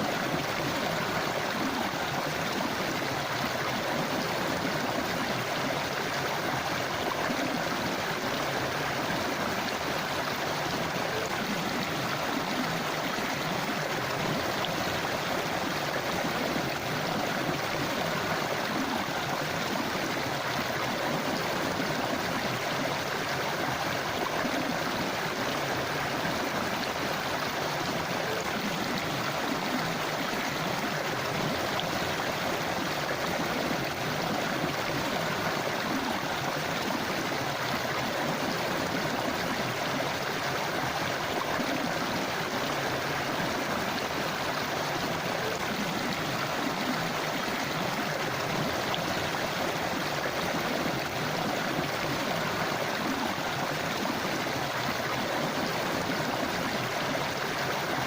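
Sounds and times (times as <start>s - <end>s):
river babbling over rocks: 0.0s - 58.0s.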